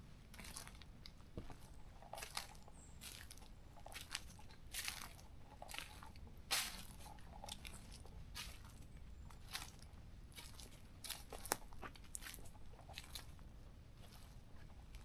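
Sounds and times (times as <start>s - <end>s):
footsteps crunching on trail: 0.3s - 13.4s, 14.0s - 15.0s.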